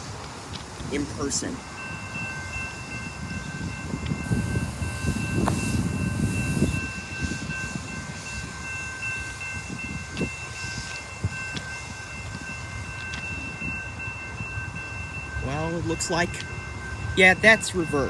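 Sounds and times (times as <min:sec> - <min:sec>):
train cars rumbling past: 0:00.0 - 0:18.0.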